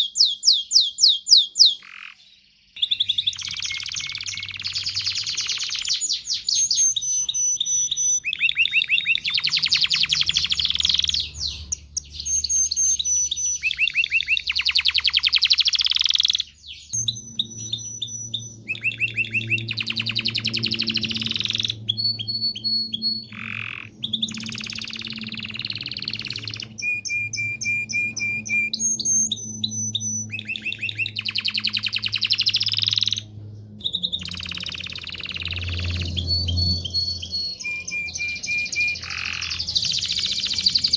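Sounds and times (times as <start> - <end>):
canary singing trills: 0.0 - 40.9
faint low hum: 2.1 - 40.9.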